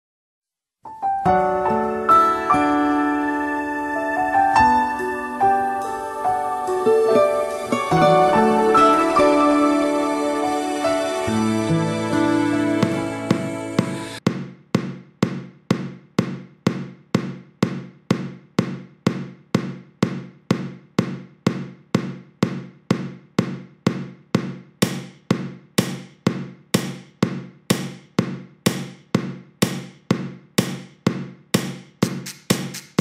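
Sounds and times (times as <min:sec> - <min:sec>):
background music with beat: 0:01.0 - 0:33.0.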